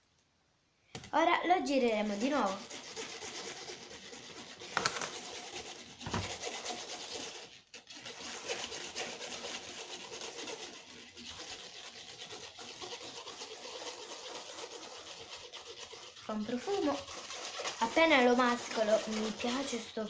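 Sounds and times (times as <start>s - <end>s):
straw scraping slime on plate: 1.6s - 20.0s.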